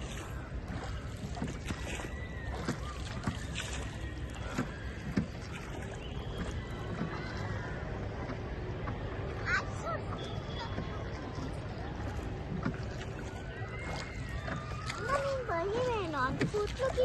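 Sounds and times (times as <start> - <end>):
boat rumbling on water: 0.0 - 17.0.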